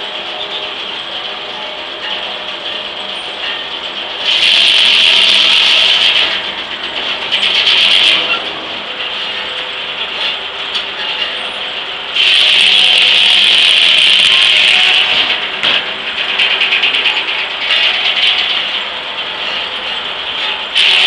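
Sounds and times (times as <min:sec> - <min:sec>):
mill machinery hum: 0:00.0 - 0:21.0.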